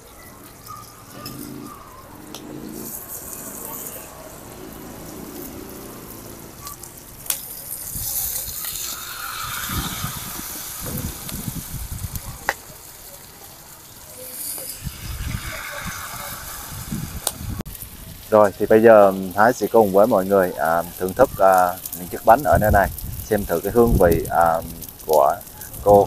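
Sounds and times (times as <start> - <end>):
batter sizzling in hot oil: 0.0 - 26.0.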